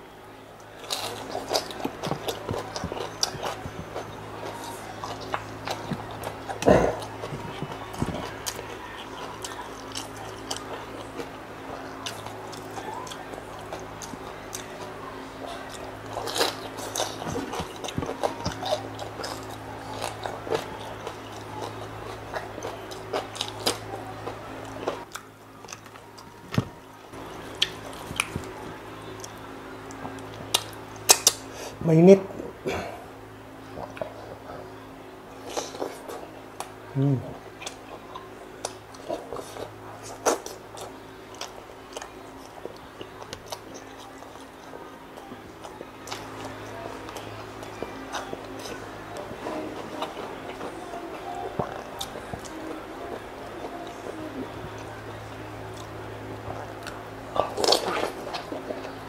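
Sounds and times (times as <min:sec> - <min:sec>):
chewing and mouth smacks: 0:00.6 - 0:31.4, 0:37.5 - 0:59.0.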